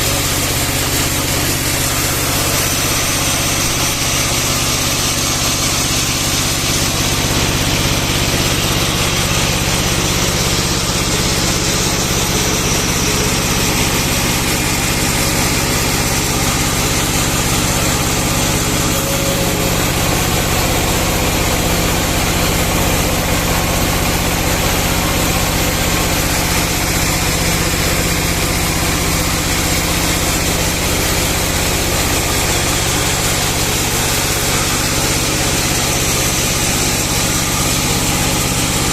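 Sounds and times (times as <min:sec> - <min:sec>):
sawmill machine hum: 0:00.0 - 0:38.9.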